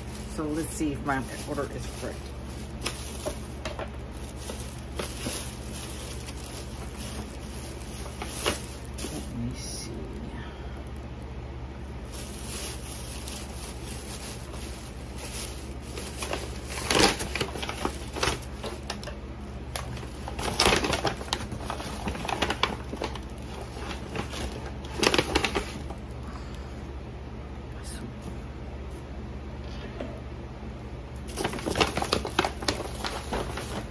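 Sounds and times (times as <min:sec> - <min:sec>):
plastic bag and containers rustling: 0:00.0 - 0:26.2, 0:31.2 - 0:33.9.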